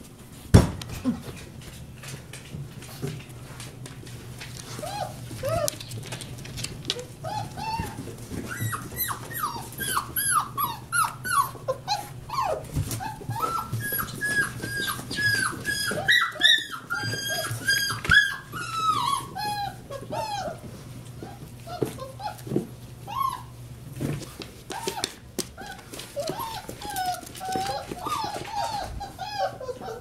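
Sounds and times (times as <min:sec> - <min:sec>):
puppies whining and yipping: 0:04.6 - 0:06.1, 0:06.9 - 0:30.0.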